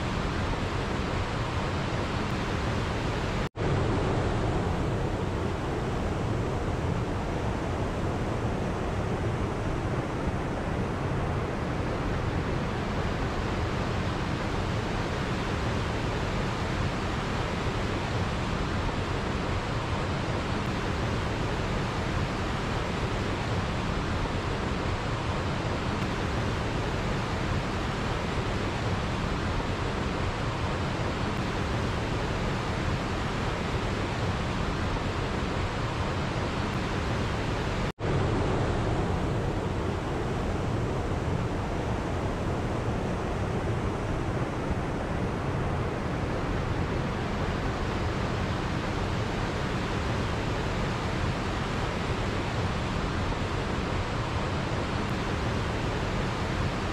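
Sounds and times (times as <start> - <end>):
waterfall and stream rushing: 0.0 - 56.9.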